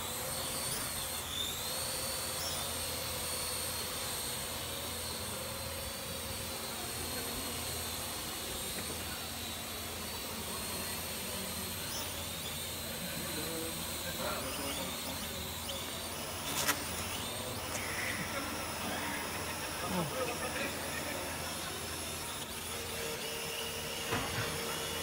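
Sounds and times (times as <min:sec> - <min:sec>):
drone propellers whining: 0:00.0 - 0:25.0.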